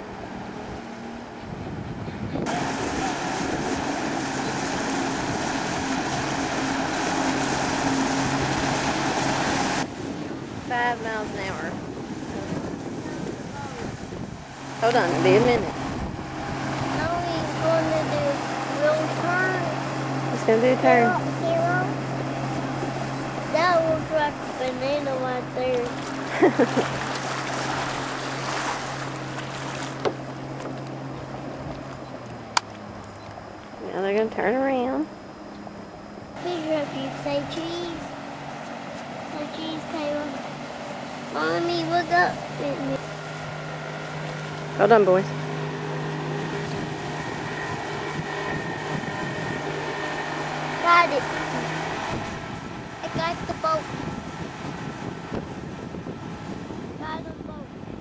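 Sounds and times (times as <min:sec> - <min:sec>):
motorboat engine humming: 0:00.0 - 0:58.0
wind: 0:00.0 - 0:58.0
rushing water: 0:02.4 - 0:09.9, 0:10.5 - 0:32.7, 0:36.4 - 0:55.4.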